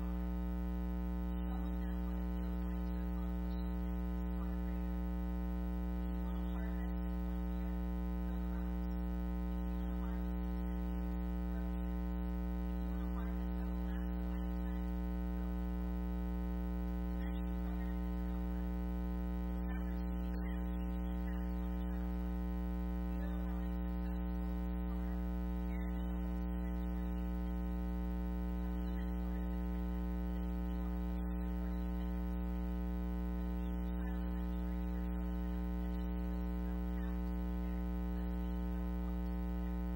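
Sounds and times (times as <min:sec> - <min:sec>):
electrical mains hum: 0:00.0 - 0:39.9
woman speaking faintly: 0:00.0 - 0:39.9.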